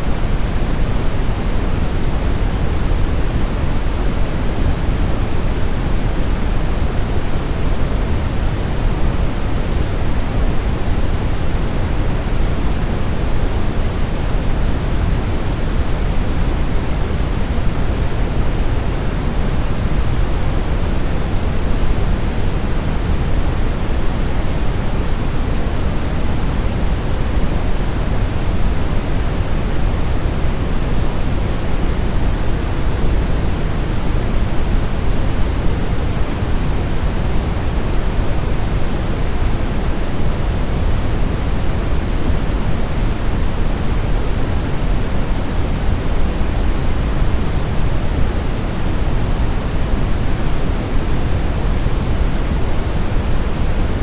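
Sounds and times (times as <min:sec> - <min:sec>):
brown noise hiss: 0:00.0 - 0:54.0.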